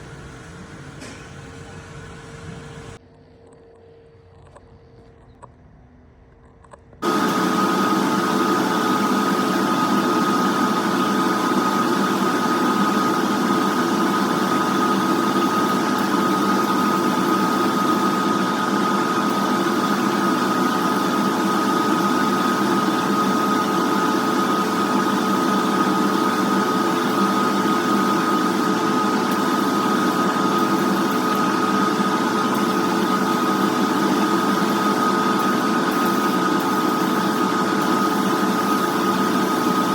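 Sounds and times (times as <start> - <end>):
machine motor hum and whine: 0.0 - 39.9.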